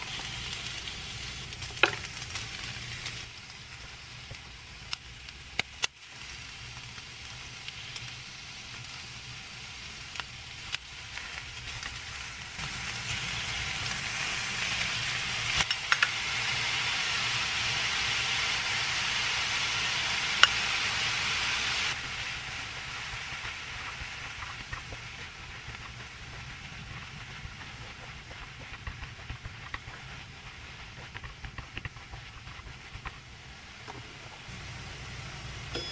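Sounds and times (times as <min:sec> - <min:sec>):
food sizzling in a frying pan: 0:00.0 - 0:35.9.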